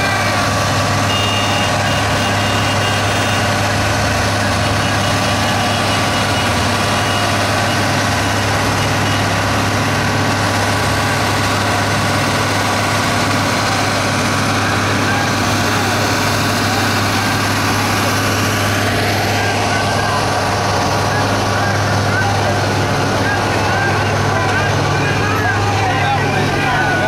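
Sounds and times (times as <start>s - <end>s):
tractor engines idling: 0.0s - 27.0s.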